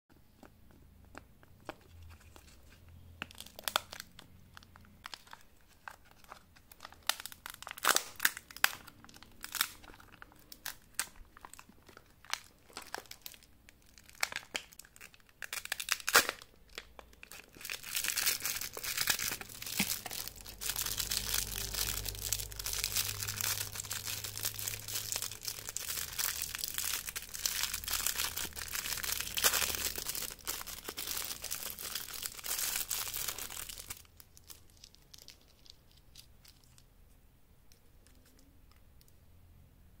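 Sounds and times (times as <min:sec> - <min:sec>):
foil wrapper crinkling and tearing: 0:02.0 - 0:36.9.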